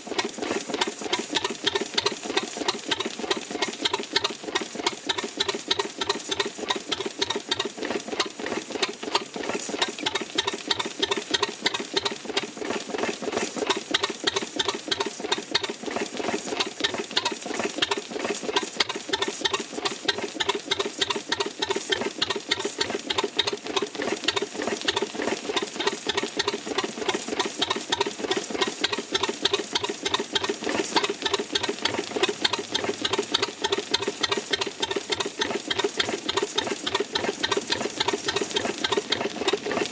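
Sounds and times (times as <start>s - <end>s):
stationary gas engine running: 0.0s - 39.9s.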